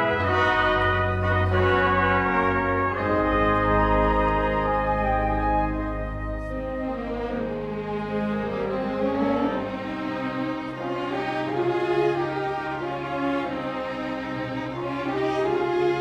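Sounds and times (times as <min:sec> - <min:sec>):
orchestral strings playing: 0:00.0 - 0:16.0.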